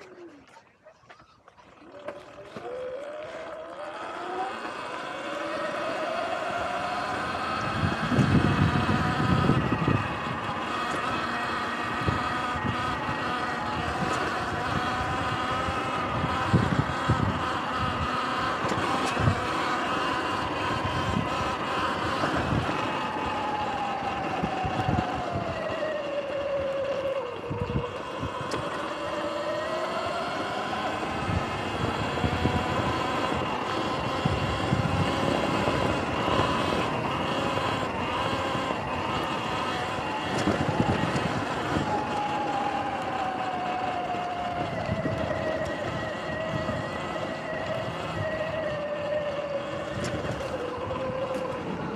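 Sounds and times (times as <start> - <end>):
electric motor whining: 1.9 - 51.9.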